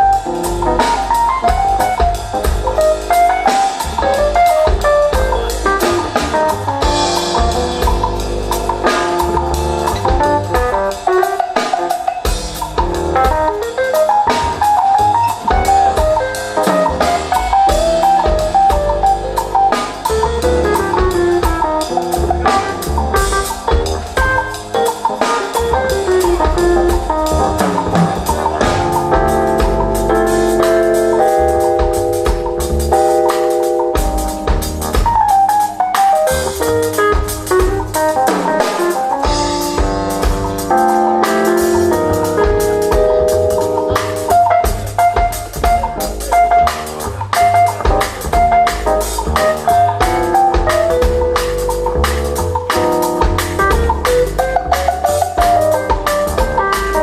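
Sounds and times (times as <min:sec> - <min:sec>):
bass line: 0:00.0 - 0:11.3, 0:12.3 - 0:57.0
drum kit beat: 0:00.0 - 0:57.0
piano chords and melody: 0:00.0 - 0:57.0.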